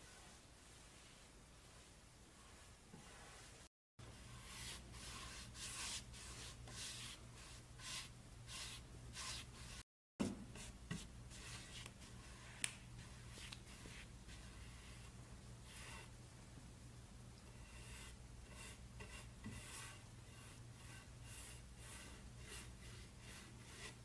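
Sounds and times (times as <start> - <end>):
paintbrush strokes on wood: 0.0 - 9.8, 10.4 - 16.2, 17.5 - 24.0.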